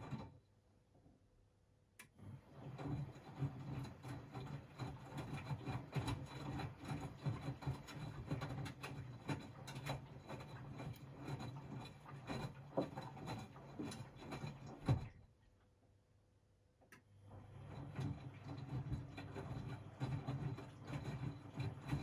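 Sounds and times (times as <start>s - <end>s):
washing machine drum motor humming: 0.0s - 0.4s, 2.0s - 15.4s, 17.0s - 22.0s.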